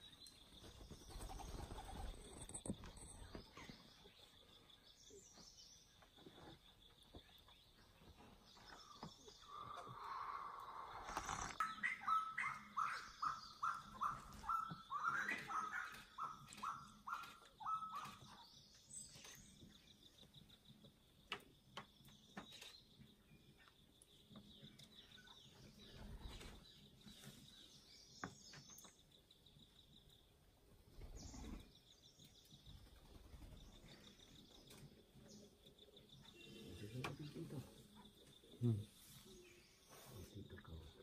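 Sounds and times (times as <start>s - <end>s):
faint bird chirps: 0.0s - 41.0s.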